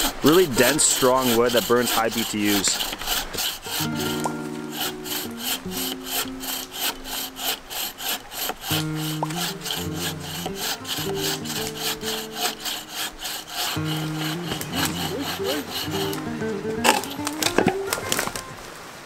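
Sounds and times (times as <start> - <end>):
bow saw cutting through log: 0.0 - 17.9.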